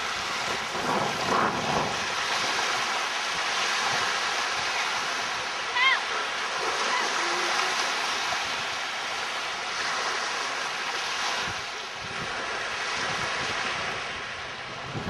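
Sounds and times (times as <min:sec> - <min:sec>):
waves washing onto sand beach: 0:00.0 - 0:15.0
wind rumbling on microphone: 0:00.0 - 0:15.0.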